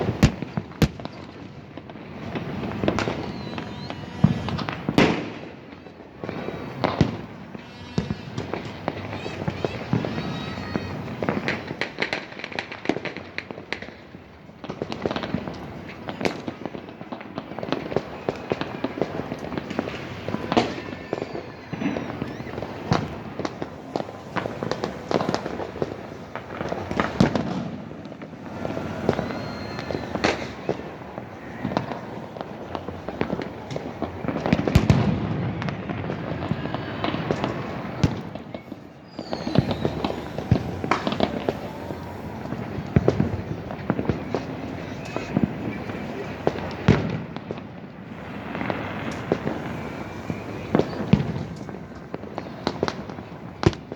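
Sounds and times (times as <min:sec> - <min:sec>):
deep firework burst: 0:00.0 - 0:53.9
fireworks crackling and banging: 0:00.0 - 0:53.9.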